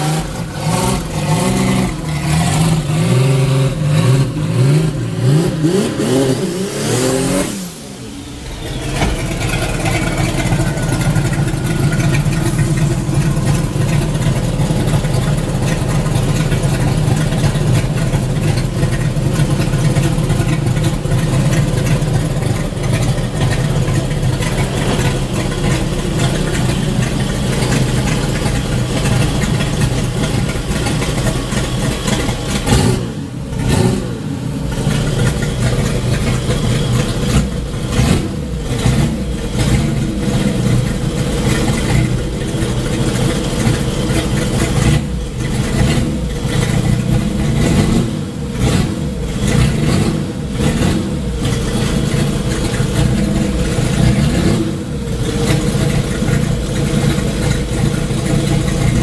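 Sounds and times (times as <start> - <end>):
car engine idling loudly: 0.0 - 59.0
engine revving: 0.0 - 59.0.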